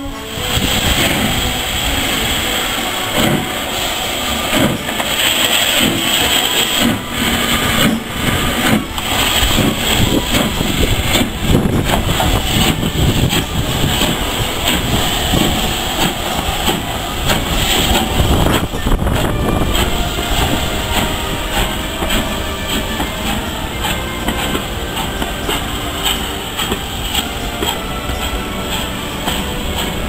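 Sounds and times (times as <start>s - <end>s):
hissing steam: 0.0s - 30.0s
steam locomotive exhaust chuffs: 0.0s - 30.0s.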